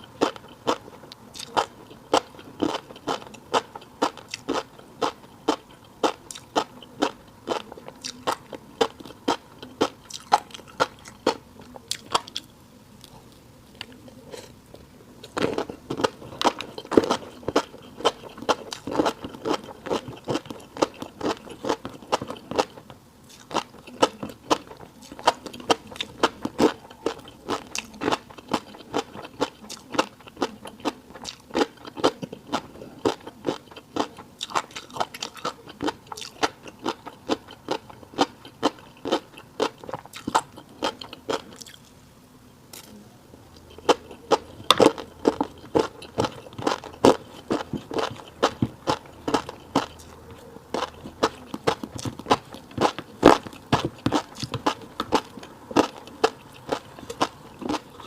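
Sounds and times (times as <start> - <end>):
chewing with crunches: 0.0 - 42.0, 43.6 - 58.0.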